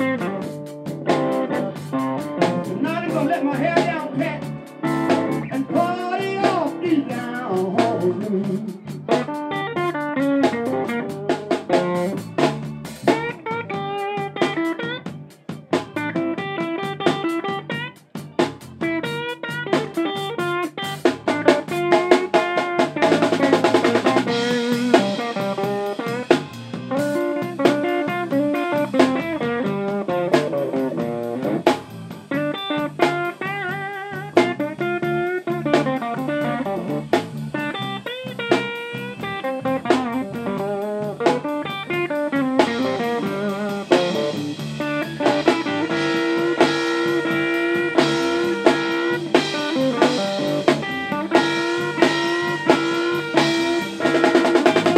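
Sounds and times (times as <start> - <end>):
bass guitar: 0.0 - 54.9
drum kit steady beat: 0.0 - 54.9
electric guitar lead: 0.0 - 54.9.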